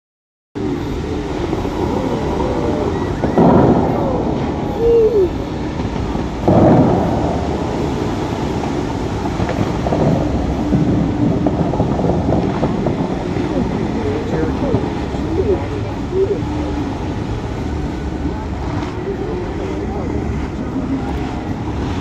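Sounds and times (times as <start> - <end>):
fountain water spraying: 0.6 - 22.0
loud fountain booms: 0.6 - 22.0.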